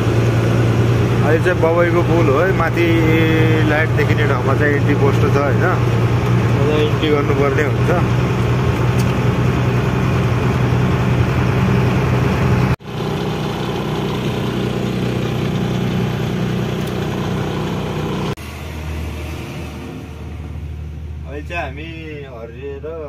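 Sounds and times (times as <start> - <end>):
truck diesel engine under load: 0.0 - 23.0.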